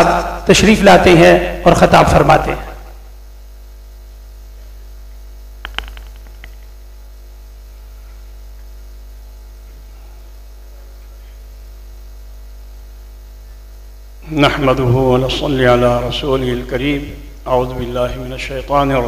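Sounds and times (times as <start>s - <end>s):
low electrical mains hum: 0.0s - 19.0s.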